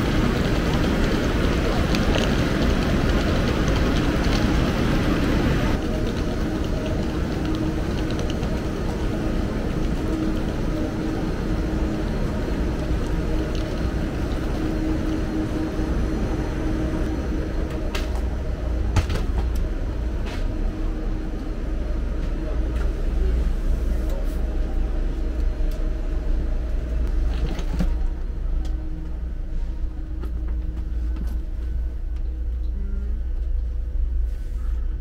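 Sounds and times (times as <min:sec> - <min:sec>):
train interior rumble: 0:00.0 - 0:35.0.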